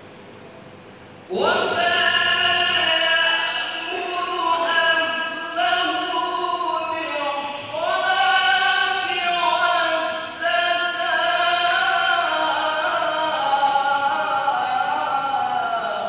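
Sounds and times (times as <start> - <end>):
man reciting melodically: 1.3 - 16.0.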